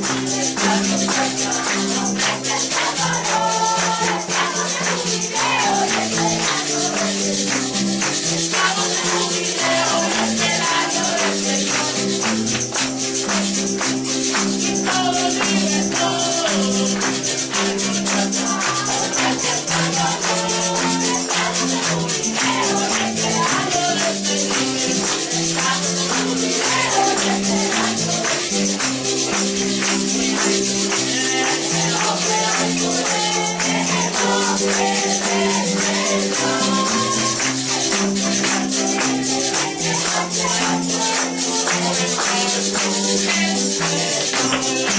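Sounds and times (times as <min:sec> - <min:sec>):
lively church music: 0:00.0 - 0:44.9
shaken percussion: 0:00.0 - 0:44.9.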